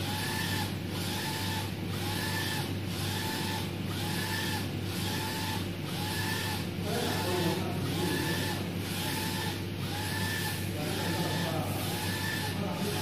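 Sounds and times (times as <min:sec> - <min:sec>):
printer carriage motor whining: 0:00.0 - 0:13.0
steady printer hum: 0:00.0 - 0:13.0.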